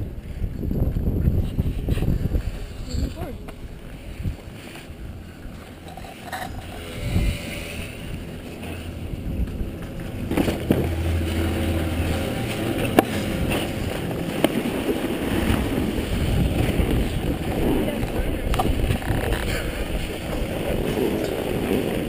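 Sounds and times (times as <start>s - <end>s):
snowboard scraping over snow: 0.2s - 22.0s.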